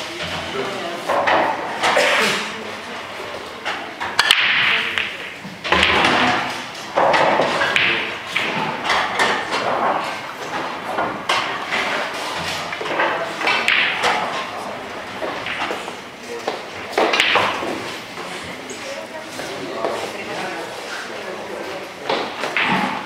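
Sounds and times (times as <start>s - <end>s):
pool balls clicking and thudding: 0.0s - 23.0s.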